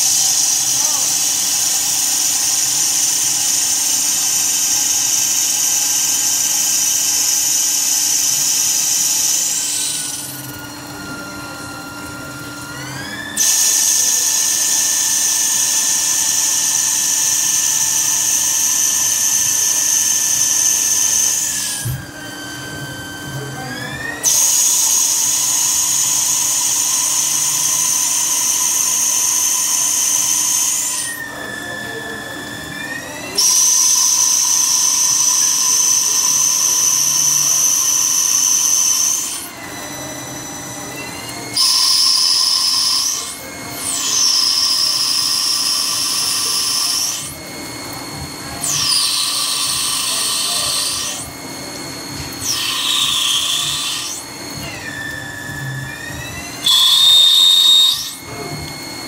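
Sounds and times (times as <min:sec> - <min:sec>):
lathe spindle whine: 0:00.0 - 0:59.0.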